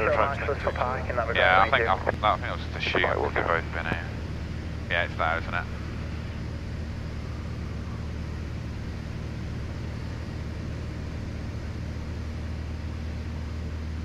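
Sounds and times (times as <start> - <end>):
aircraft engine and propeller: 0.0 - 14.0.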